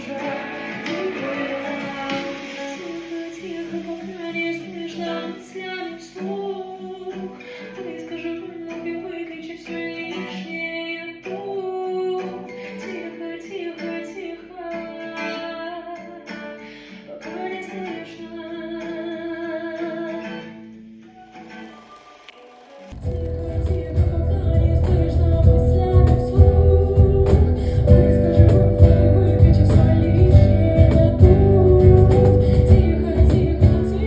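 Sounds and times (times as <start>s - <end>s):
woman singing: 0.0s - 20.5s, 23.0s - 34.0s
plucked guitar: 0.0s - 22.2s, 23.0s - 34.0s.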